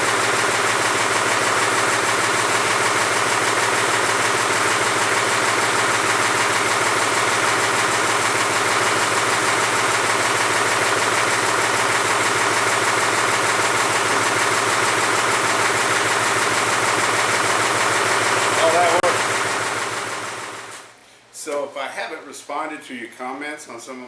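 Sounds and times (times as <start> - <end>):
tractor diesel engine idling: 0.0 - 20.8.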